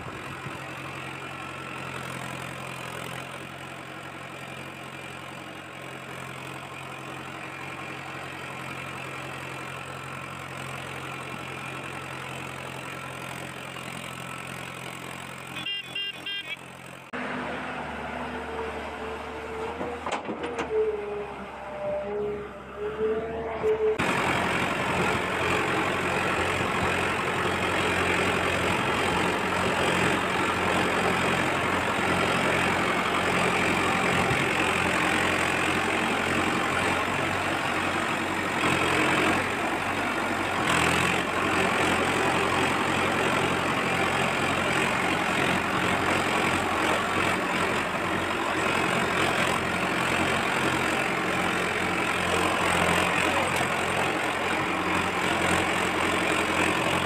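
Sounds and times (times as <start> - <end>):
tractor engine idling: 0.0 - 21.7, 24.0 - 57.0.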